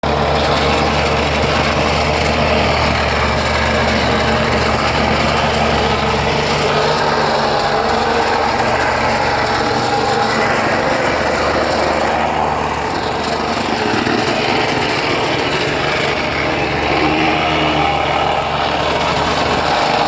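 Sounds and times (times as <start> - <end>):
compactor engine humming: 0.0 - 20.0
crushed brick rattling and scraping: 0.0 - 20.0.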